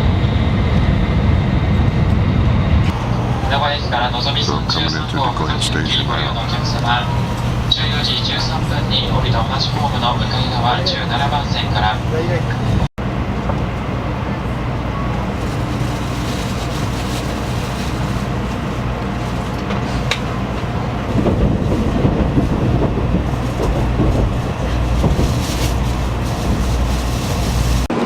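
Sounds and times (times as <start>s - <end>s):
bullet train rumbling: 0.0s - 28.0s.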